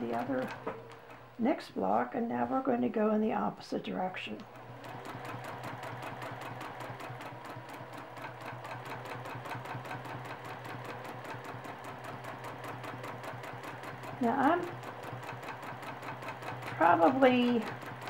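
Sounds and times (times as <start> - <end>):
sewing machine running: 0.0 - 1.2, 4.5 - 18.0.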